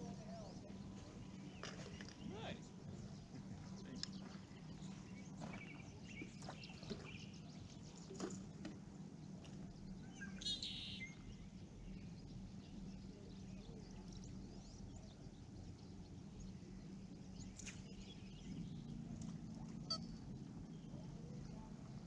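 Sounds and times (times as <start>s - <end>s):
birds calling and chirping: 0.0s - 22.0s
low hum: 0.0s - 22.0s.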